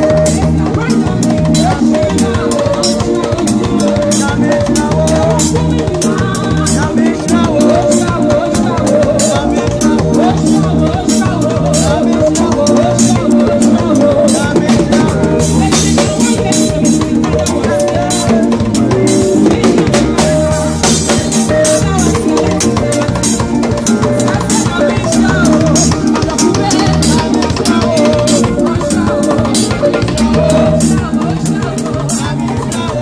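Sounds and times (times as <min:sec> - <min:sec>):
drum kit beat: 0:00.0 - 0:33.0
live band music: 0:00.0 - 0:33.0.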